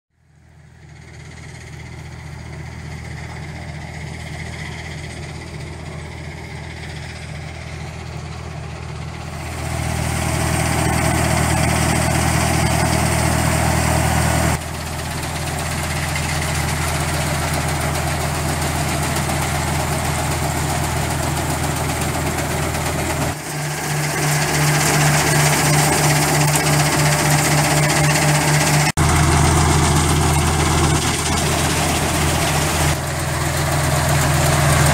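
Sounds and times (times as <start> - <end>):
engine drone: 0.2 - 34.9
harvester rushing noise: 0.9 - 34.9.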